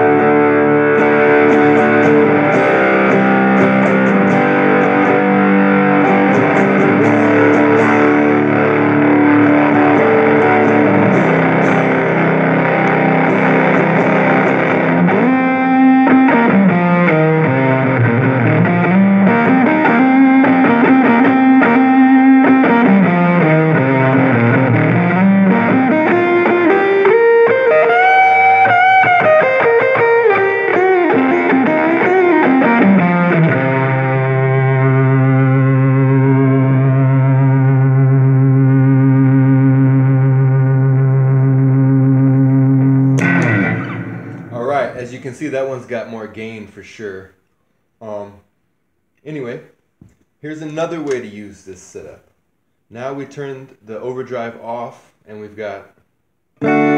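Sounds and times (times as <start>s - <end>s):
distorted electric guitar chords: 0.0s - 45.6s, 56.6s - 56.9s
electric guitar lead line: 0.0s - 45.9s, 56.6s - 56.9s.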